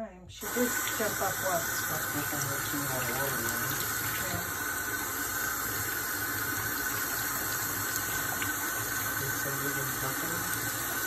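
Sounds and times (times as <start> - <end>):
faucet water running: 0.4 - 11.0
water splashing into sink: 0.4 - 11.0.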